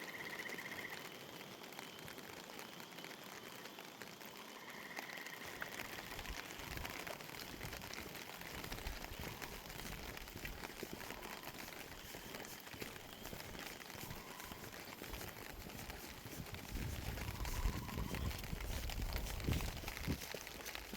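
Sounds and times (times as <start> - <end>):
rain pattering: 0.0 - 20.9.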